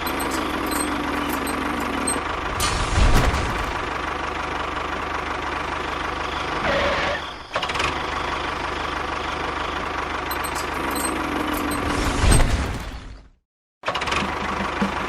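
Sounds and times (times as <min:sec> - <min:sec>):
engine idling: 0:00.0 - 0:11.8, 0:13.9 - 0:15.0.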